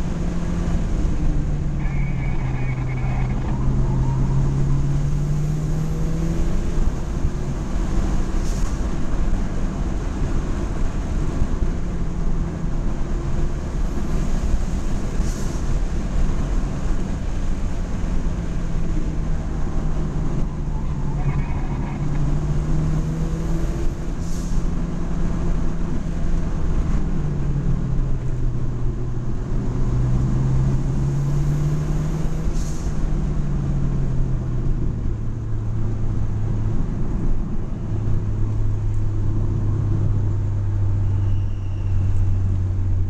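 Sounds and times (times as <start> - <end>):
car engine cruising: 0.0 - 43.0
tyre and road noise: 0.0 - 43.0.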